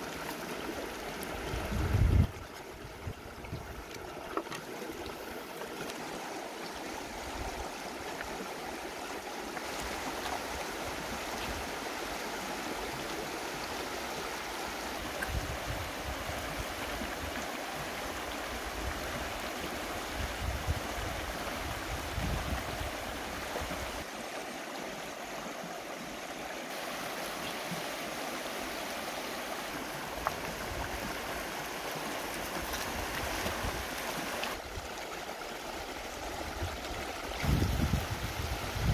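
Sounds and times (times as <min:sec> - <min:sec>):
river rushing over stones: 0:00.0 - 0:38.9.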